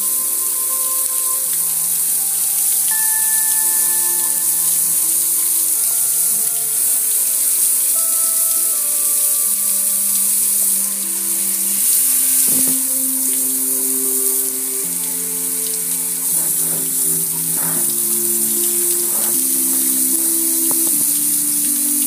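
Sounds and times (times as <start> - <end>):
background music of held notes: 0.0 - 22.0.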